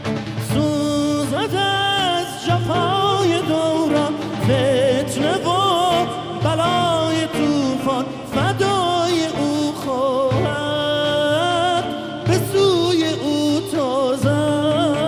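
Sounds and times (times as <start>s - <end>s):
low beat: 0.0s - 15.0s
person singing ornamented melody: 0.5s - 15.0s.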